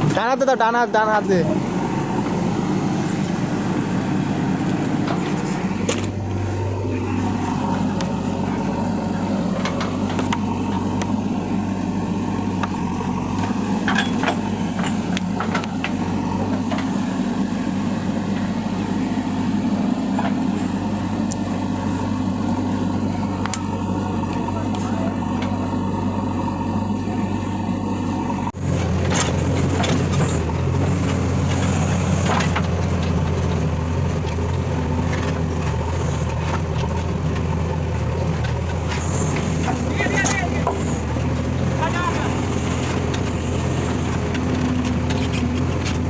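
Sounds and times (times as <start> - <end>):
diesel engine running: 0.0 - 46.0
deep steady hum: 1.1 - 46.0.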